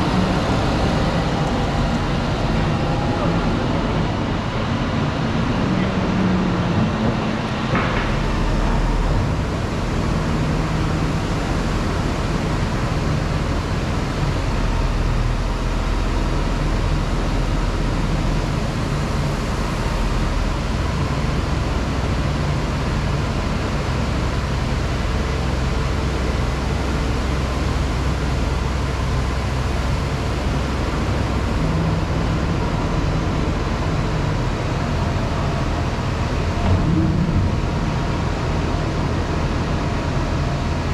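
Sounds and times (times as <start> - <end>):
constant rushing noise: 0.0 - 40.9.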